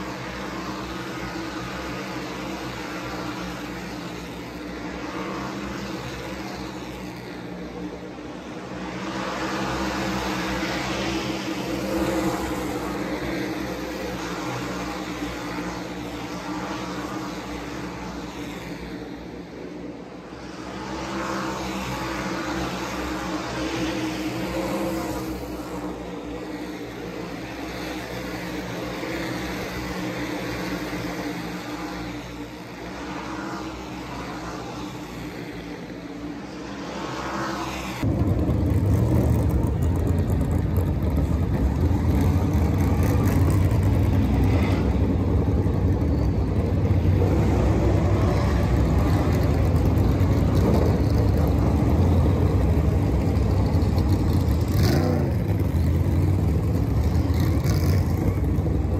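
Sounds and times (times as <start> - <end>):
race car engines: 0.0 - 58.9.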